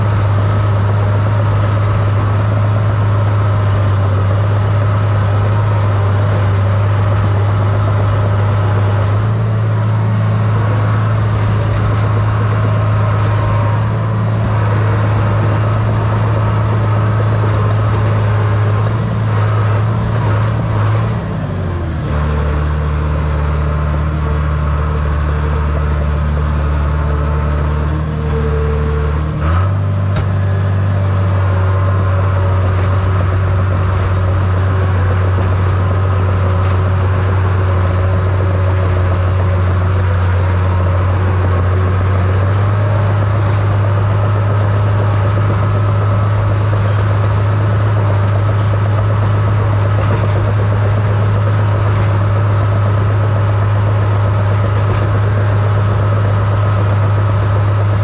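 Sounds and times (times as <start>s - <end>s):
dozer diesel engine running: 0.0s - 58.0s.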